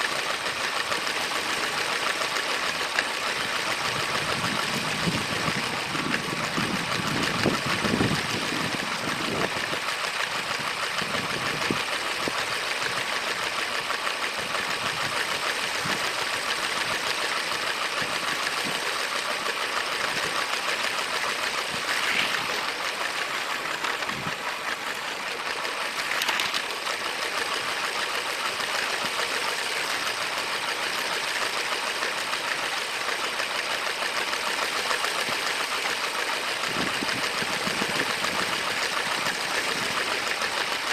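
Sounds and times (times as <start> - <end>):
small motor whirring: 0.0 - 40.9
toy train wheels rattling: 0.0 - 40.9.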